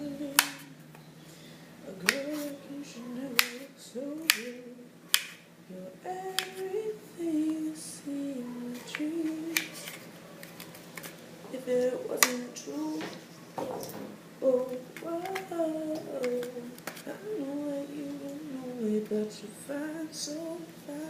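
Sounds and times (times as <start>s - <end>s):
person singing: 0.0s - 0.8s, 1.8s - 9.9s, 11.5s - 13.3s, 14.4s - 21.0s.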